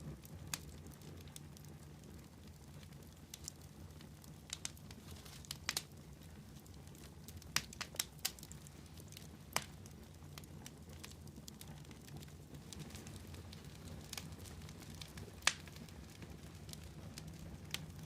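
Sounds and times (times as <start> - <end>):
low rumble of flame: 0.0 - 18.0
wood fire crackling and popping: 0.0 - 18.0.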